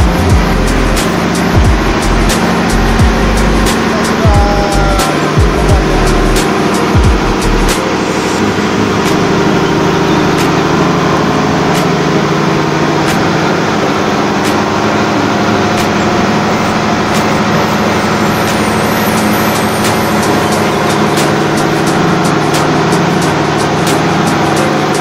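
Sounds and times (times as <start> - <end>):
diesel generator engine running: 0.0 - 25.0.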